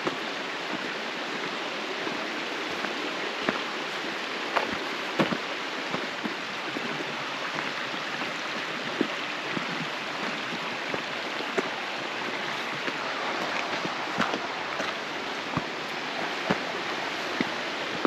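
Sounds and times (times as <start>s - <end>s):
footsteps on trail: 0.0s - 18.0s
mountain stream rushing: 0.0s - 18.0s.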